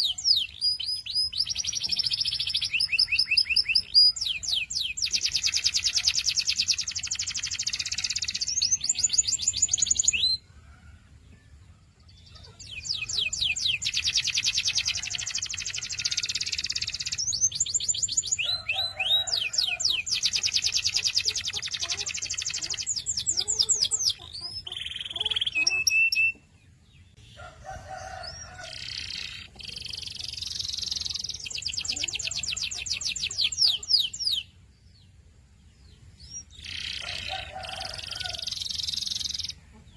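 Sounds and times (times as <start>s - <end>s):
canary singing rapid trills: 0.0s - 10.5s, 12.2s - 26.5s, 27.8s - 34.6s, 36.0s - 39.8s.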